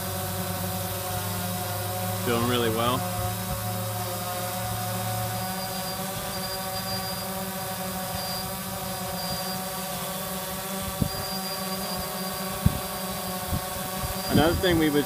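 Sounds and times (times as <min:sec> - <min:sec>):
quadcopter motors humming: 0:00.0 - 0:15.0.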